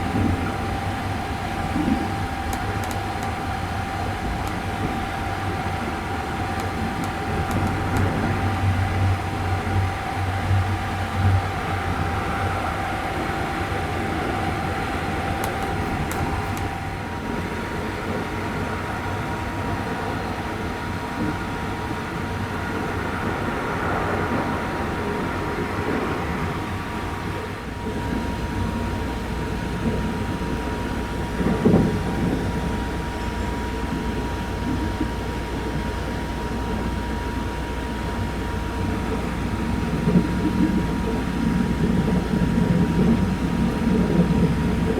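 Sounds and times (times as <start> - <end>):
train rumble and rail noise: 0.0 - 44.9.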